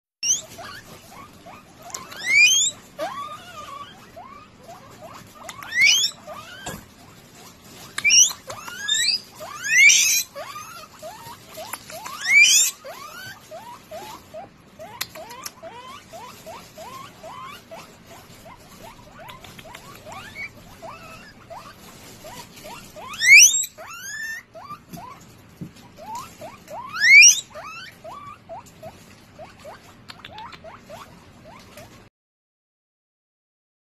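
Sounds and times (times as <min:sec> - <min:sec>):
guinea pig whistles: 0:00.2 - 0:06.8, 0:07.8 - 0:25.2, 0:26.0 - 0:31.9
guinea pig squeaking: 0:00.2 - 0:32.1.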